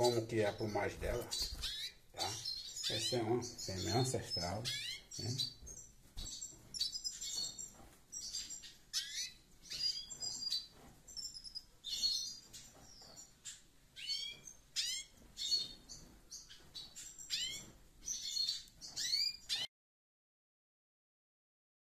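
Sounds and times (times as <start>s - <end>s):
birds chirping and calling: 0.0s - 19.7s.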